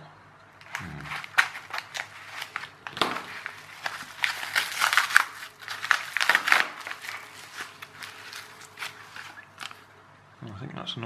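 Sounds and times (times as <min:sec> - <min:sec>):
bubble-wrap pouch crinkling: 0:00.6 - 0:09.9.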